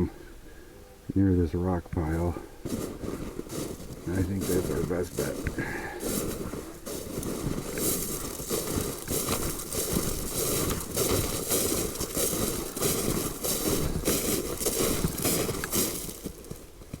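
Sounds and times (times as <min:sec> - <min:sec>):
footsteps crunching through dry leaves: 0:02.0 - 0:17.0.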